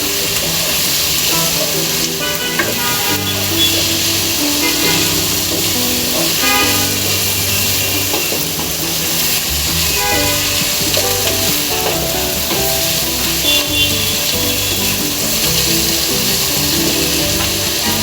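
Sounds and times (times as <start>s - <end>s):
background music: 0.0s - 18.0s
food sizzling in a pan: 0.0s - 18.0s.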